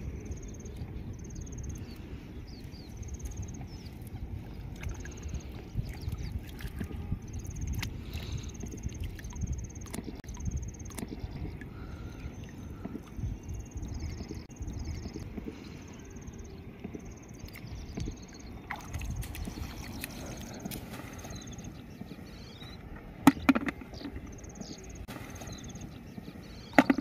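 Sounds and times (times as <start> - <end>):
wind rumble on microphone: 0.0 - 27.0
water sloshing and splashing: 0.6 - 27.0.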